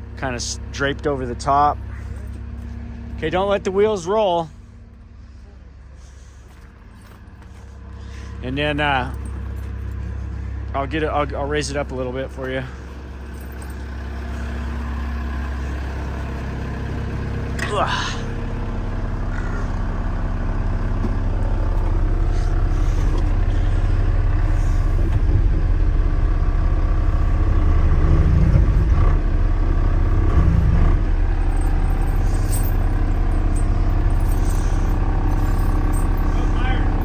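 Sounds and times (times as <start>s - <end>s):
loader diesel engine under load: 0.0s - 37.0s.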